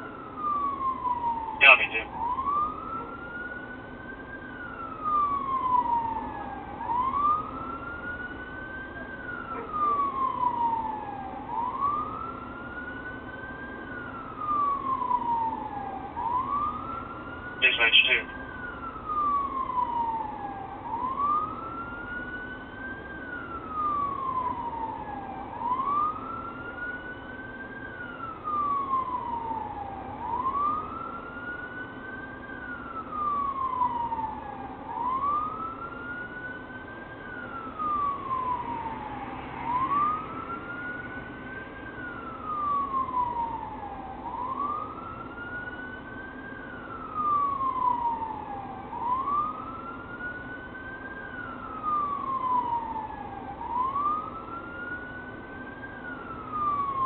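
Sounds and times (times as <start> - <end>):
faint second siren: 0.0 - 57.0
police siren wailing: 0.0 - 57.0.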